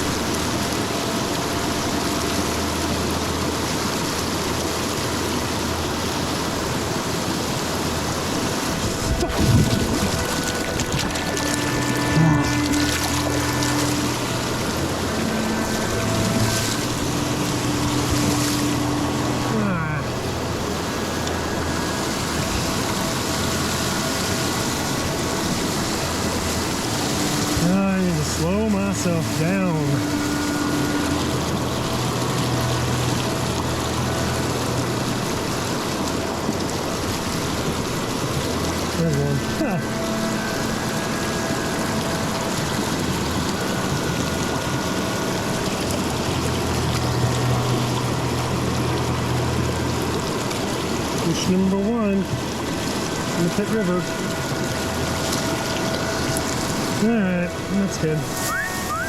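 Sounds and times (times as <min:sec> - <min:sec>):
low steady hum: 0:00.0 - 0:59.0
river current rushing: 0:00.0 - 0:59.0.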